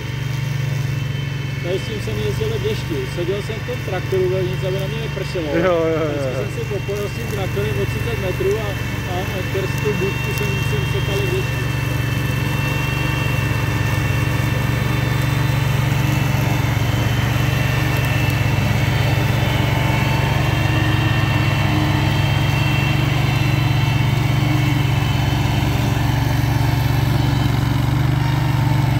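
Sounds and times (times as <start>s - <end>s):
mower engine cutting grass: 0.0s - 28.9s.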